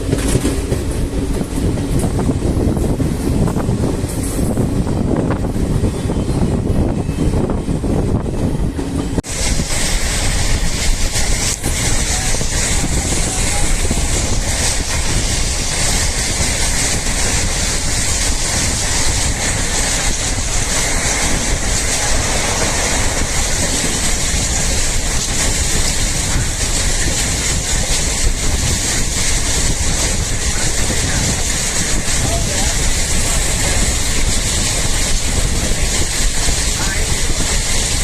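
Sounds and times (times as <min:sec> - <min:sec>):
train wheels on rails: 0:00.0 - 0:38.0
wind blowing: 0:00.0 - 0:38.0.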